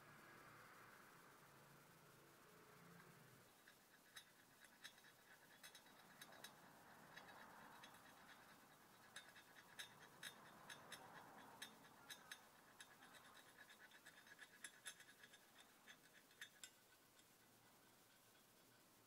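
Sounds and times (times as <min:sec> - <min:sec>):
scribe scratching metal: 0:03.4 - 0:19.0.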